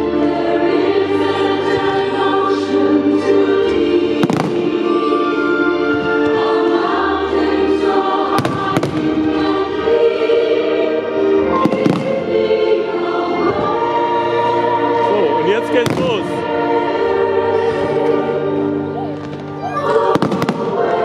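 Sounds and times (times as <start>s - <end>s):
choral music: 0.0s - 21.0s.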